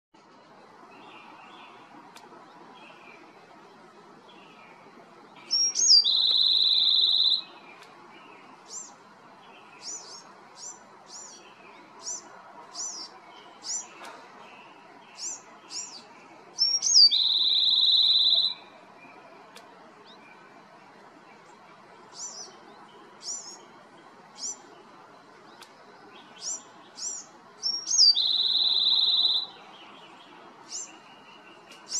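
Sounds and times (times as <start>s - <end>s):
wren singing trills: 4.3s - 20.6s, 22.0s - 31.9s.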